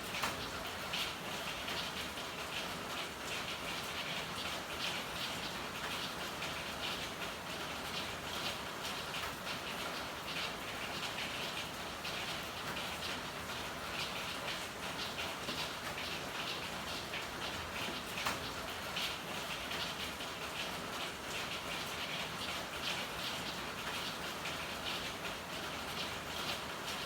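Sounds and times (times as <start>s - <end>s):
raindrops striking a hard surface: 0.0s - 27.0s.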